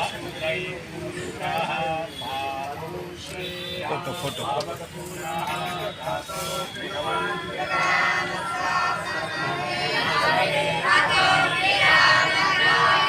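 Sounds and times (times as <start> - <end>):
crowd of voices: 0.0 - 13.0.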